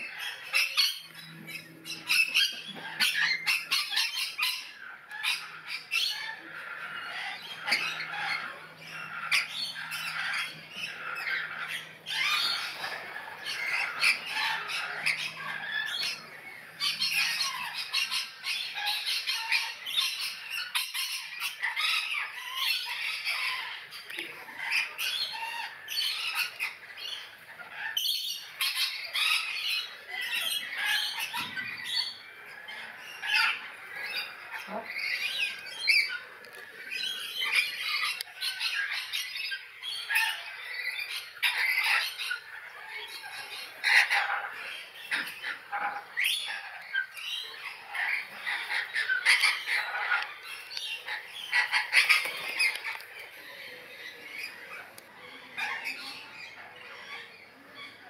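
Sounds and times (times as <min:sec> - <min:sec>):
lorikeets screeching: 0:00.0 - 0:58.0.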